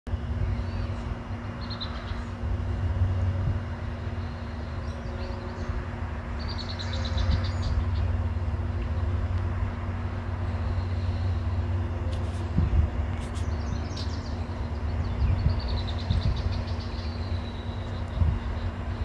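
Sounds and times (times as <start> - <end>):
low outdoor rumble: 0.1 - 19.0.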